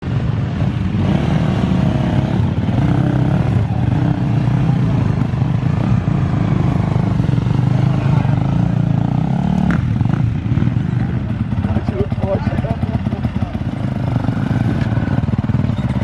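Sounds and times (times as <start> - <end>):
dirt bike engines running: 0.0 - 16.0.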